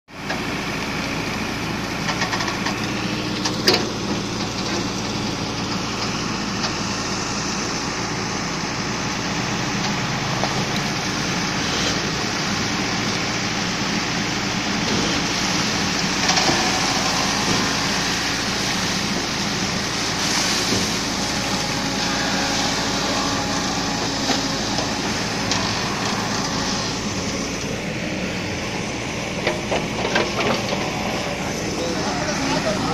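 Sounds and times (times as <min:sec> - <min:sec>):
diesel engine running: 0:00.1 - 0:32.9.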